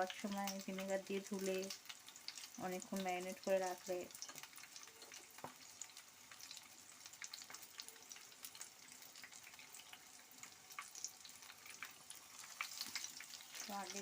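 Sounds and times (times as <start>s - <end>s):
deep-frying sizzle: 0.0s - 14.0s
oil crackles and pops: 0.0s - 14.0s.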